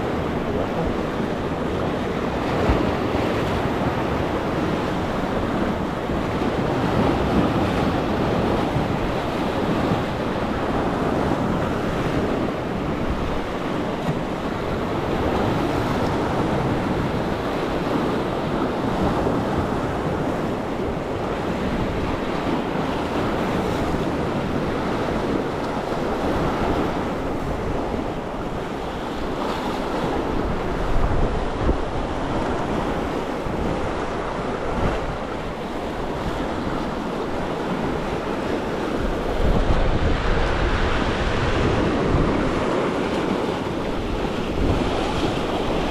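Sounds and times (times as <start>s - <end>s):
sea waves: 0.0s - 45.9s
wind buffeting microphone: 0.0s - 45.9s.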